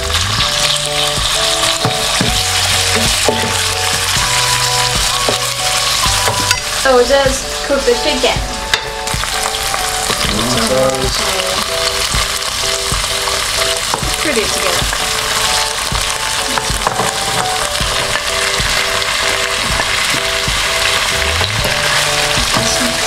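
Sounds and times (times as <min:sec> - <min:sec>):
chicken sizzling in a wok: 0:00.0 - 0:23.0.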